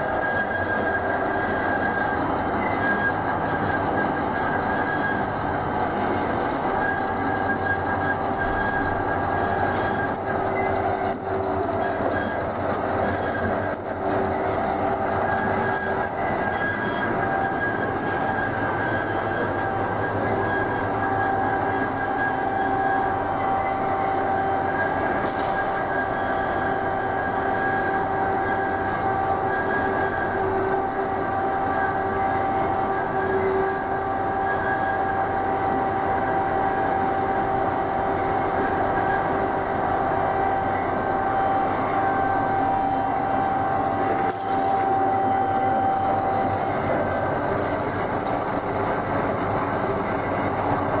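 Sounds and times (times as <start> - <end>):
band saw running: 0.0 - 51.0.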